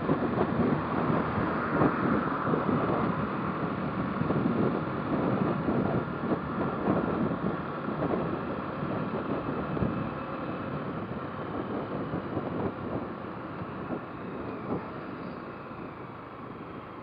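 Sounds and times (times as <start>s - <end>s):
road noise: 0.0s - 17.0s
wind on microphone: 0.0s - 17.0s.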